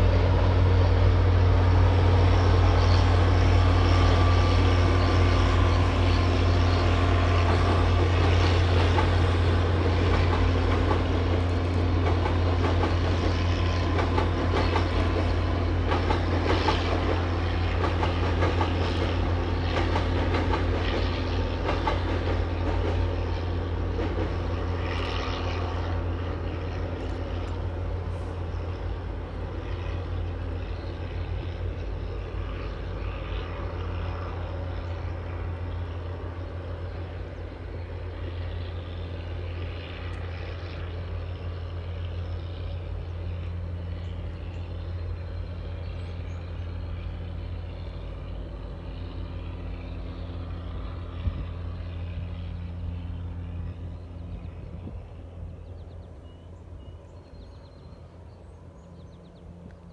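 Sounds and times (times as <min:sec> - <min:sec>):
distant train rumbling on bridge: 0:00.0 - 0:59.9.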